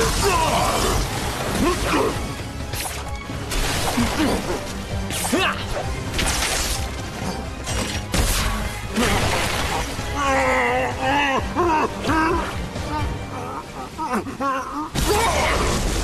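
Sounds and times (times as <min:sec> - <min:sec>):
action music: 0:00.0 - 0:16.0.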